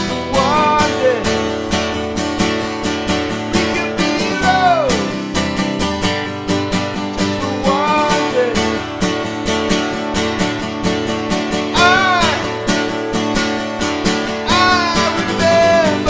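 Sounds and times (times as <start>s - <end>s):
acoustic guitar strumming: 0.0s - 16.0s
high sliding guitar notes: 0.0s - 16.0s.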